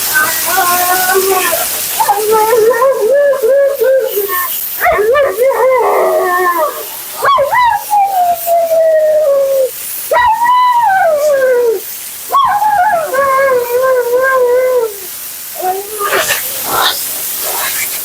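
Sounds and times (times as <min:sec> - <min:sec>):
husky howling: 0:00.5 - 0:17.8.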